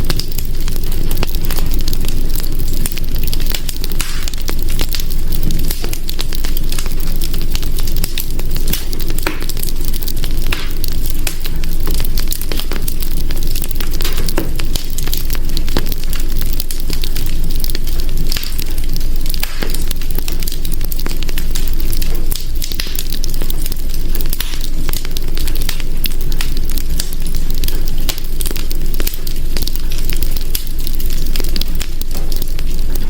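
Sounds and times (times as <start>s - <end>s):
fire crackling and popping: 0.0s - 33.0s
fire rumbling and hissing: 0.0s - 33.0s.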